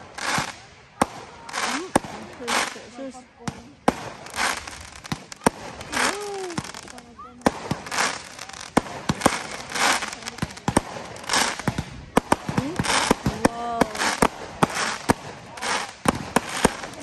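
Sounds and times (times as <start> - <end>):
firework shells bursting: 0.0 - 17.0
fireworks crackling: 0.0 - 17.0.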